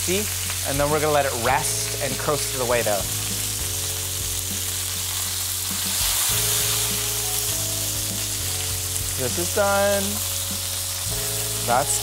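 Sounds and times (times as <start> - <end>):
chicken sizzling in pans: 0.0 - 12.0.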